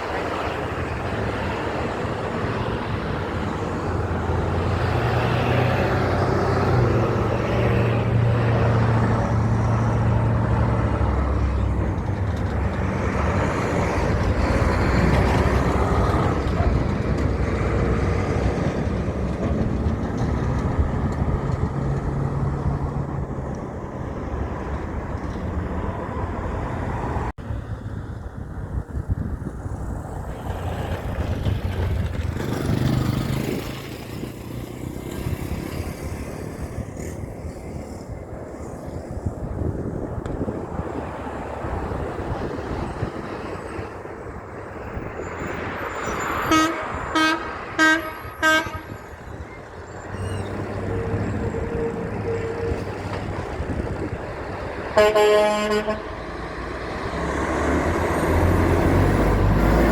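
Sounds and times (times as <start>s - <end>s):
heavy trucks driving past: 0.0s - 59.9s.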